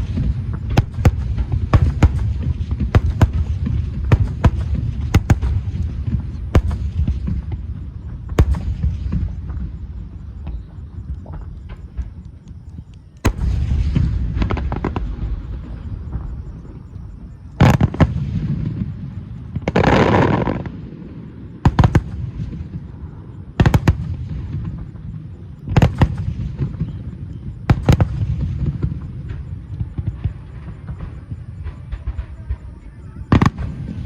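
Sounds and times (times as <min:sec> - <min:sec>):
firework shells bursting with rumble: 0:00.0 - 0:34.0
fireworks crackling hiss: 0:00.0 - 0:34.0.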